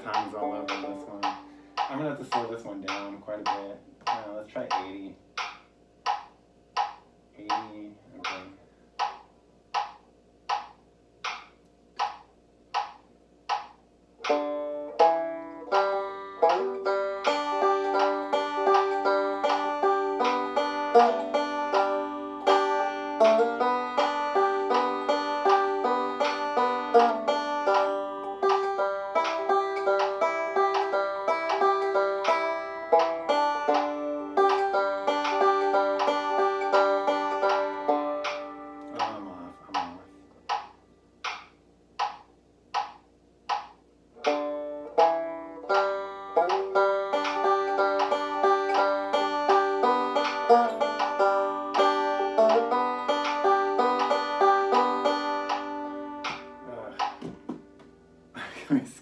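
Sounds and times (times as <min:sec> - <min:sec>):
banjo picking a tune: 0:00.0 - 0:05.5, 0:06.1 - 0:09.2, 0:13.5 - 0:41.4, 0:43.5 - 0:58.3
metronome ticking: 0:00.0 - 0:57.9.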